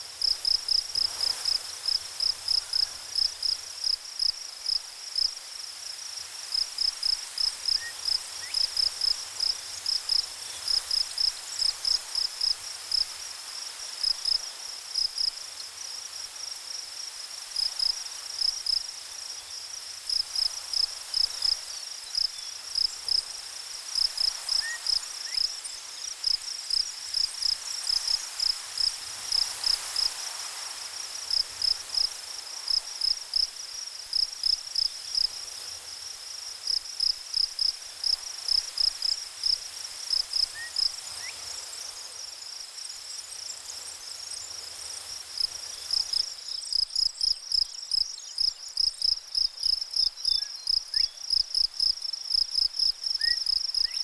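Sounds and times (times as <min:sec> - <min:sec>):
faint steady hiss: 0:00.0 - 0:54.0
cricket chirping: 0:00.1 - 0:54.0.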